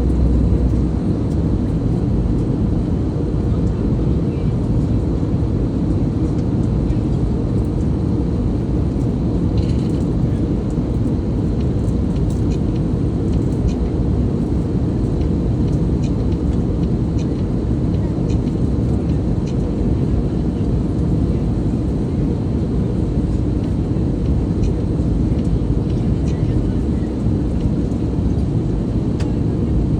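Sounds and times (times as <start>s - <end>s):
airliner cabin roar: 0.0s - 29.9s.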